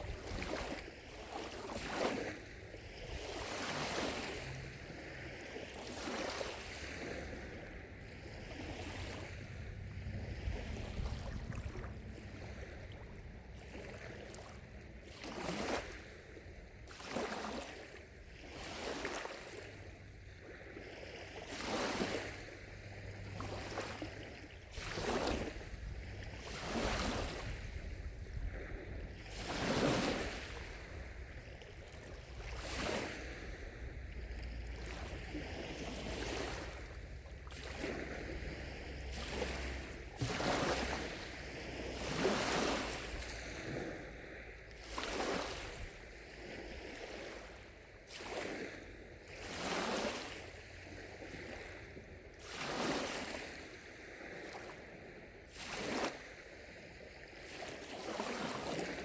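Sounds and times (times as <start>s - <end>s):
lake waves lapping against shore: 0.0s - 59.0s.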